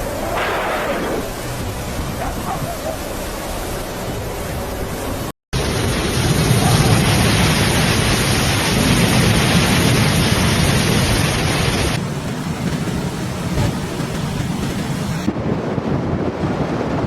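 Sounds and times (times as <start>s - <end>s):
heavy rain: 0.0s - 15.3s
wind: 0.0s - 17.0s.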